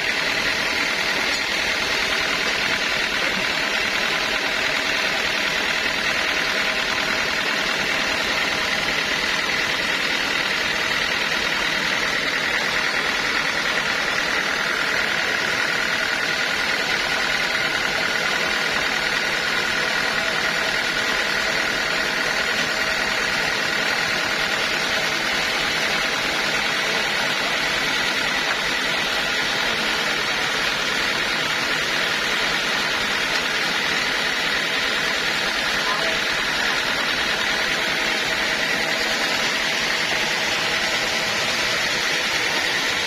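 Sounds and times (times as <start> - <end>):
high mechanical whine: 0.0 - 43.0
sawmill machinery running: 0.0 - 43.0.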